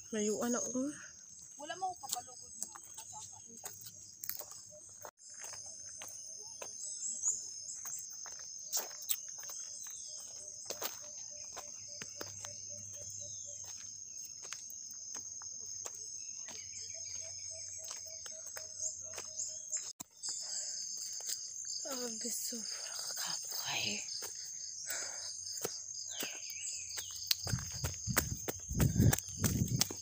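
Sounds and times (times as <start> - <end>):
high-pitched insect chorus: 0.0 - 30.0
footsteps on stony dirt trail: 0.4 - 30.0.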